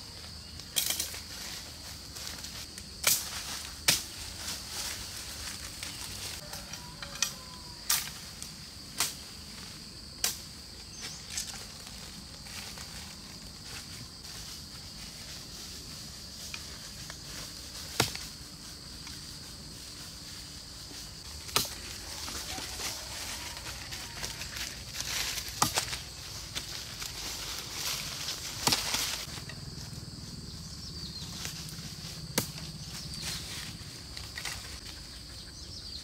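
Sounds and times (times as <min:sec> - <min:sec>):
footsteps on dry leaves: 0:00.0 - 0:07.7, 0:10.8 - 0:30.2, 0:31.1 - 0:34.8.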